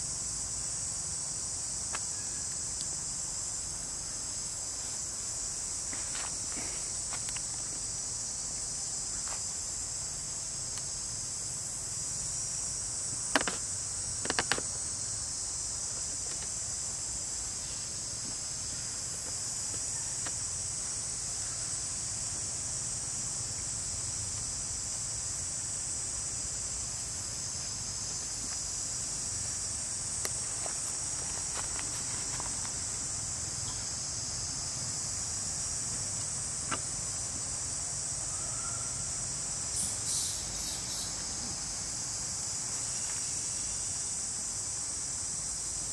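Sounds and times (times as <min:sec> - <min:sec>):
high-pitched insect chorus: 0:00.0 - 0:45.9.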